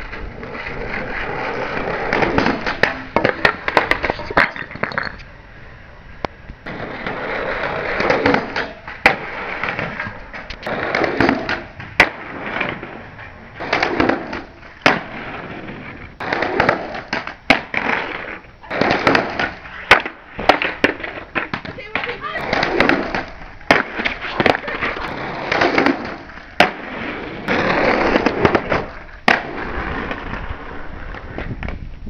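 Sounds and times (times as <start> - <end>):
skateboard clacks: 0.0 - 5.3, 6.6 - 31.9
skateboard wheels rolling on concrete: 0.0 - 32.0.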